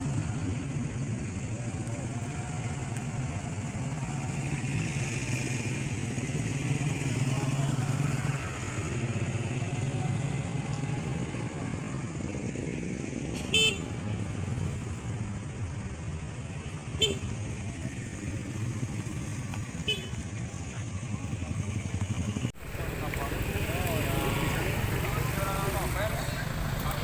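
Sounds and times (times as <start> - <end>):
motorcycle engines running: 0.0 - 27.0
road traffic: 0.0 - 27.0.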